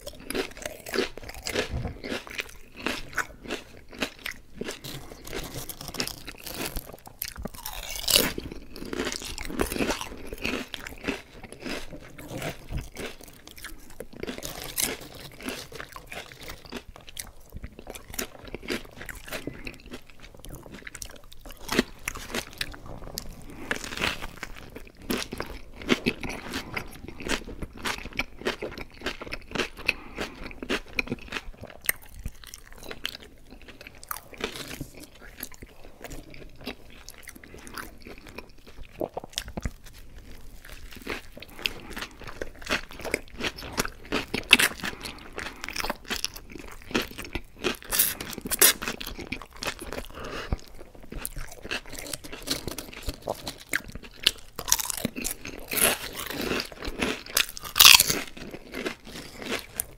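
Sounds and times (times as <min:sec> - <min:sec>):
crunchy chip eating: 0:00.0 - 0:59.9.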